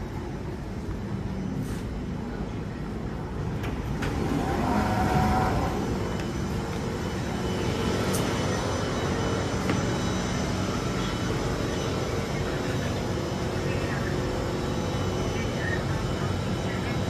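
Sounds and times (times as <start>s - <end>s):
train running rumble: 0.0s - 17.0s
faint motor tones: 0.1s - 17.0s.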